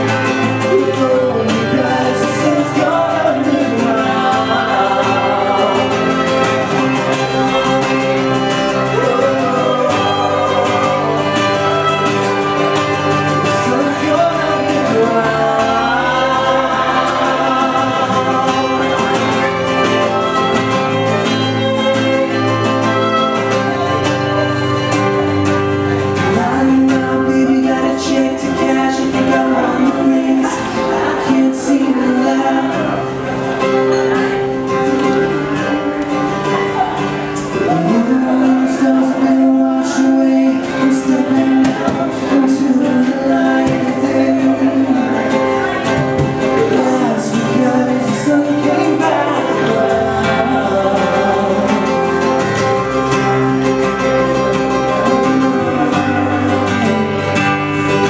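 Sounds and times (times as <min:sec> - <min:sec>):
person singing: 0:00.0 - 0:36.0, 0:36.8 - 0:58.0
electric bass: 0:00.0 - 0:58.0
strummed acoustic guitar: 0:00.0 - 0:58.0
violin: 0:00.0 - 0:58.0.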